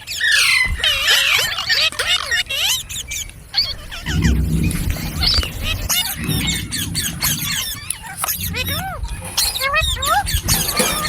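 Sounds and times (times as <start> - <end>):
parrot chattering: 0.0 - 11.0.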